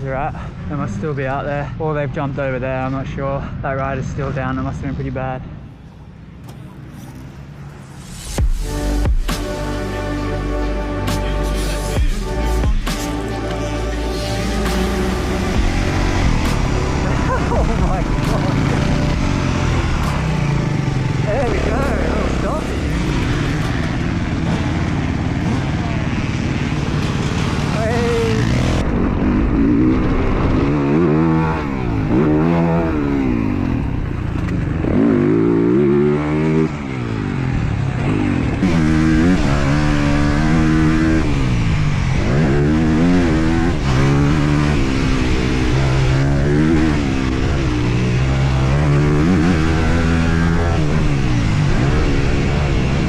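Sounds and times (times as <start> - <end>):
motocross engine revving: 6.4 - 53.0.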